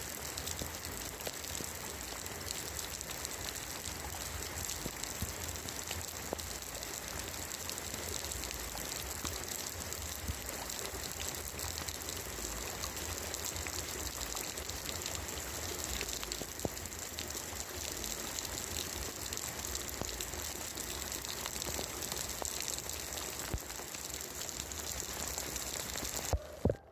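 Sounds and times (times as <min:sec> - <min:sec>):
raindrops ticking on tiles: 0:00.0 - 0:26.4
rain on roof tiles: 0:00.0 - 0:26.8.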